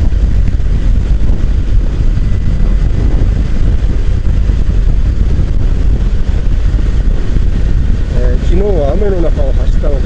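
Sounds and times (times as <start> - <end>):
road and engine noise: 0.0 - 10.0
wind rushing over microphone: 0.0 - 10.0.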